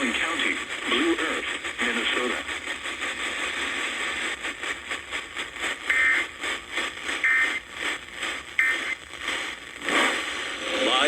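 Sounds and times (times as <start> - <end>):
crackling radio static: 0.0 - 11.0.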